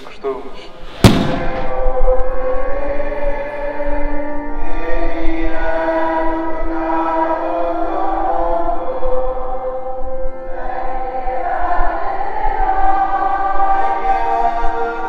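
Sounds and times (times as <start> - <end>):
accordion: 0.0 - 15.0
group singing a hymn: 0.7 - 15.0.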